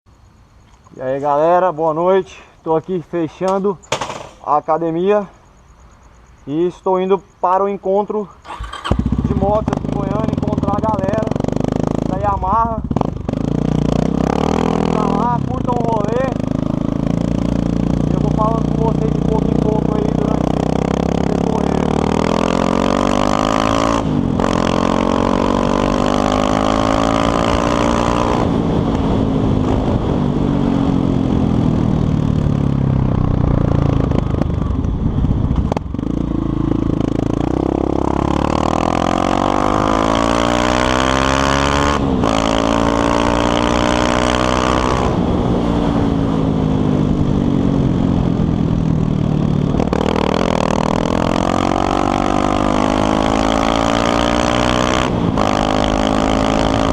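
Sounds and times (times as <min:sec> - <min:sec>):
motorcycle engine accelerating: 0:08.4 - 0:56.9.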